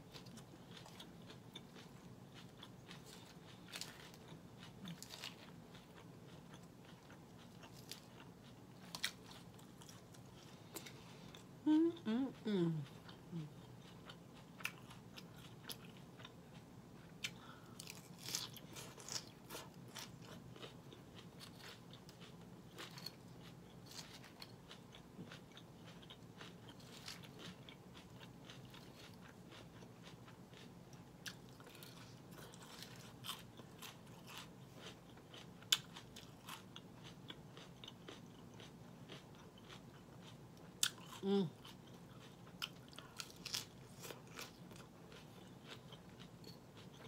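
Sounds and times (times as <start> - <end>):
chewing crunchy lettuce: 0.0 - 47.0.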